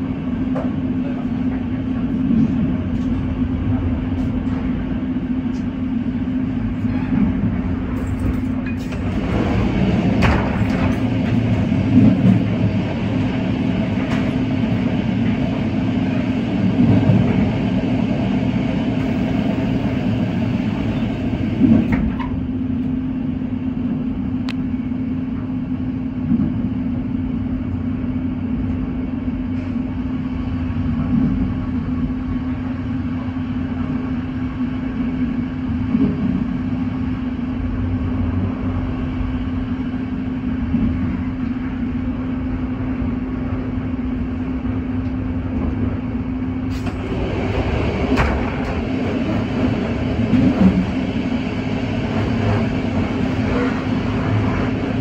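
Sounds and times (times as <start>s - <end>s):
constant hum: 0.0s - 55.0s
wheels rumbling on rails: 0.0s - 55.0s.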